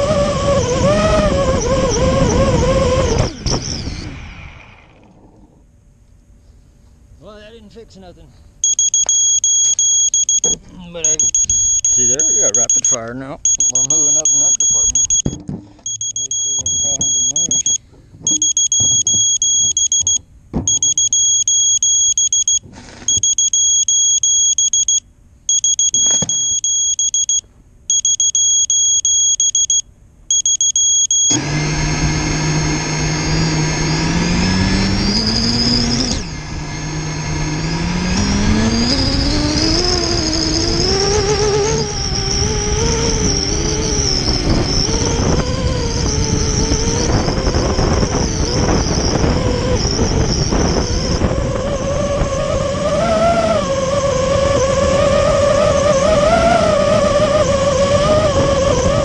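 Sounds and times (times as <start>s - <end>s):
quadcopter motors whining: 0.0s - 5.6s, 8.6s - 25.0s, 30.4s - 59.0s
long electronic beeps: 8.6s - 59.0s.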